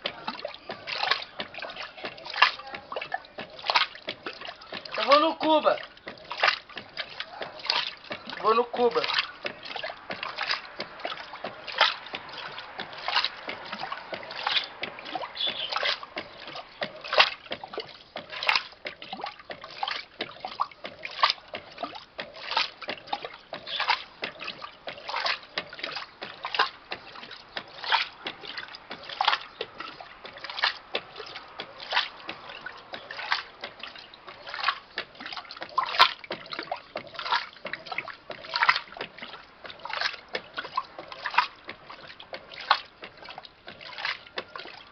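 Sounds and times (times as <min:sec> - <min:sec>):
washing machine sloshing water: 0:00.0 - 0:44.9.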